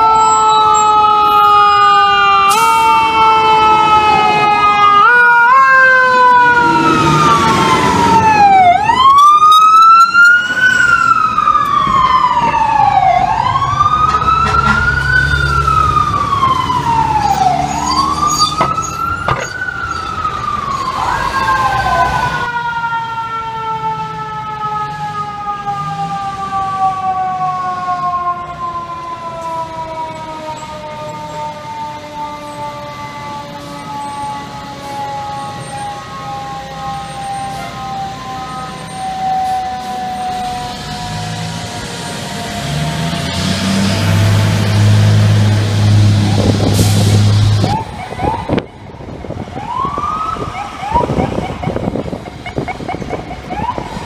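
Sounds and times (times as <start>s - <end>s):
wailing sirens: 0.0s - 54.0s
heavy truck engine rumble: 0.3s - 22.5s, 24.4s - 54.0s.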